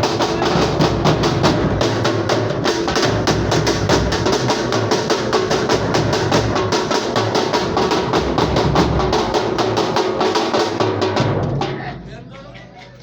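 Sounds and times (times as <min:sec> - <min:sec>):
music with fast drumbeat: 0:00.0 - 0:12.7.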